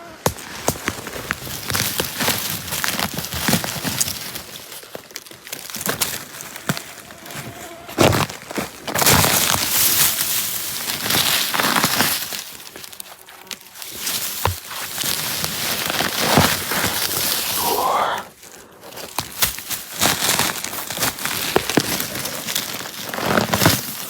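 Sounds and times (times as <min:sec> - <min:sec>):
rustling and crackling: 0:00.3 - 0:24.0.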